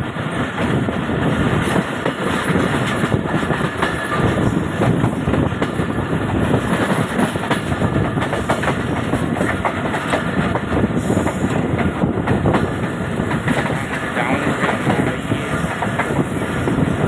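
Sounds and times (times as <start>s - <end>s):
train rolling on track: 0.0s - 17.0s
wheels clacking over rail joints: 0.6s - 17.0s.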